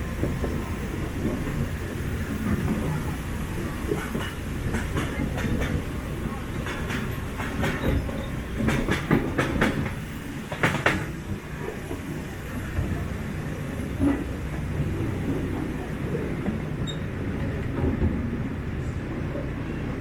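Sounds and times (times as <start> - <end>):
miniature train rumbling: 0.0 - 20.0
wheels clacking over rail joints: 0.0 - 20.0.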